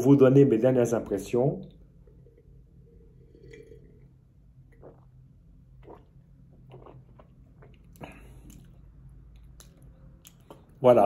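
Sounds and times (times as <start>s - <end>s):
sipping and swallowing: 1.7s - 10.8s.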